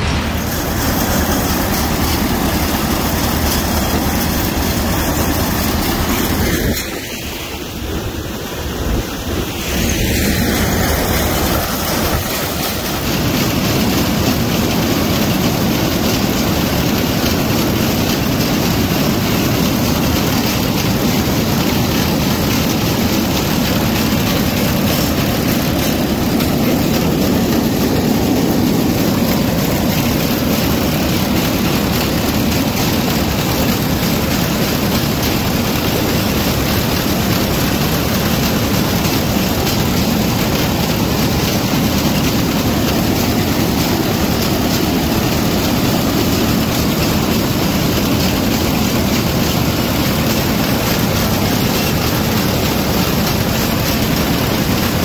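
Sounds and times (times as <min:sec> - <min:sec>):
corn picker rolls snapping: 0:00.0 - 0:07.4, 0:09.6 - 0:55.0
tractor running under load: 0:00.0 - 0:55.0.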